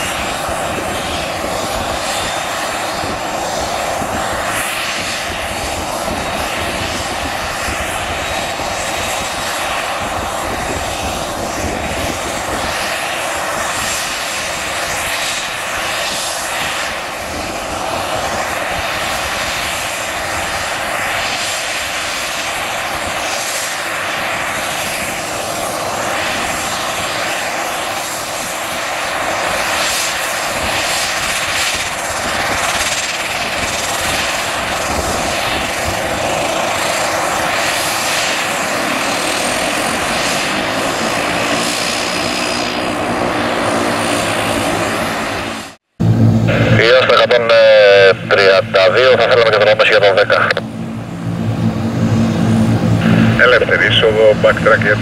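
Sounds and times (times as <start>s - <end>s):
turboprop engines running: 0.0s - 55.0s.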